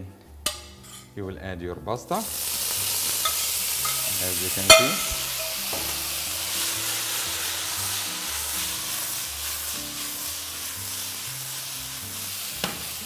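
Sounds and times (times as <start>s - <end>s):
pasta sizzling in frying pan: 2.2s - 13.0s.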